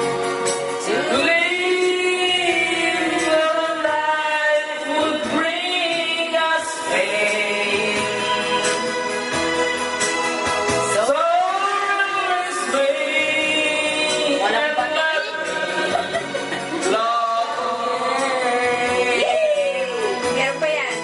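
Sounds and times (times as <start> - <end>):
backing music: 0.0 - 21.0
woman singing into microphone: 0.8 - 9.0, 10.9 - 21.0.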